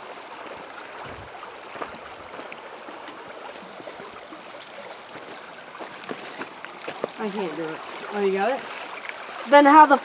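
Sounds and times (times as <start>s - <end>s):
creek water running: 0.0s - 10.0s.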